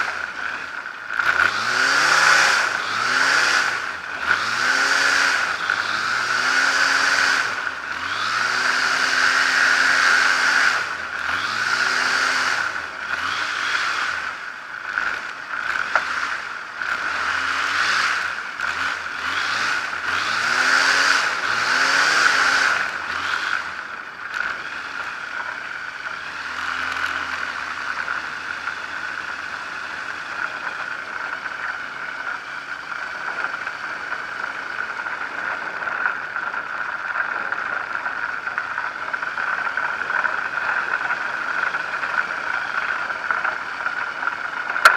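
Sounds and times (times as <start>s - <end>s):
light aircraft engine and propeller: 0.0s - 44.9s.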